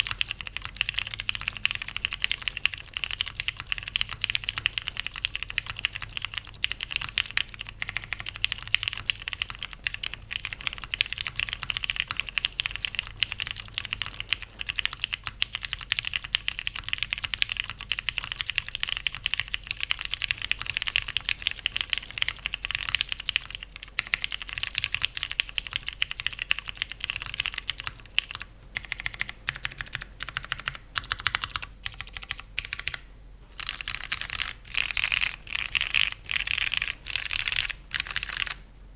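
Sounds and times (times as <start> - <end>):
mechanical keyboard typing: 0.0 - 38.6.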